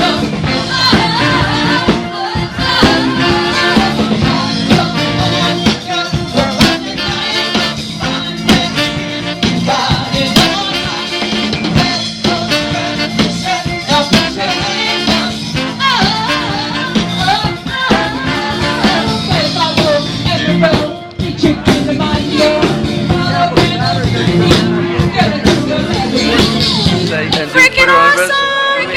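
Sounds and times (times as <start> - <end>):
lead singer singing: 0.0 - 28.9
live band playing: 0.0 - 28.9.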